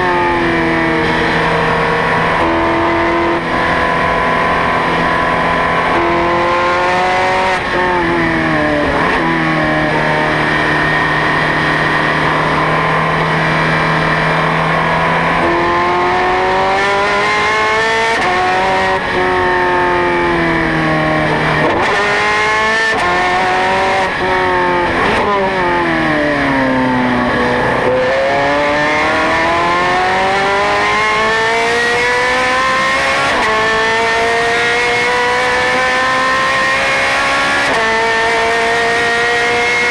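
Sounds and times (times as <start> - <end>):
sports car engine revving: 0.0 - 39.9.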